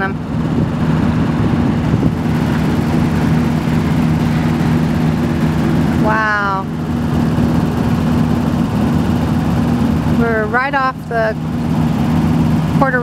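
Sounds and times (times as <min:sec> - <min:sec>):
boat engine humming: 0:00.0 - 0:13.0
constant rushing noise: 0:00.0 - 0:13.0.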